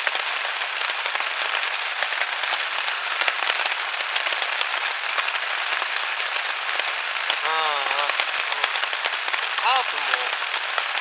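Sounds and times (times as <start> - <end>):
heavy rain on tent: 0.0 - 11.0.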